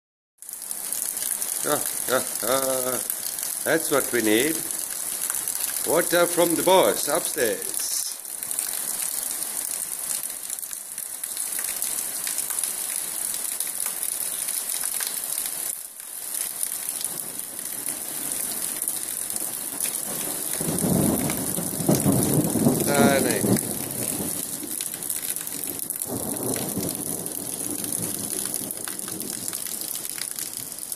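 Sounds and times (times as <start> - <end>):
rain on water and paving: 0.4 - 30.9.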